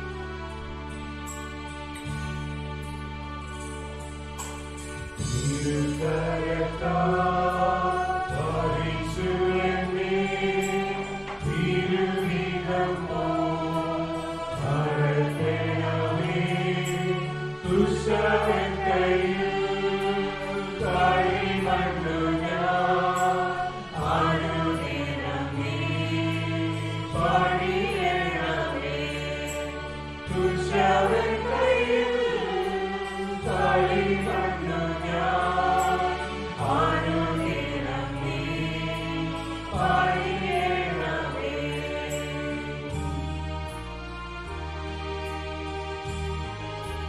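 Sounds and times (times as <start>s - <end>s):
low held accompaniment chords: 0.0s - 47.0s
church choir singing a hymn: 5.2s - 44.9s.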